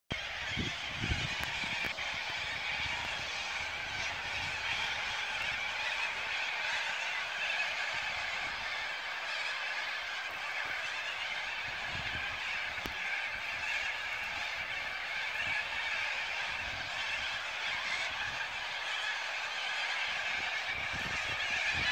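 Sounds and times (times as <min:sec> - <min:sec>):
flock of birds screeching: 0:00.1 - 0:21.9.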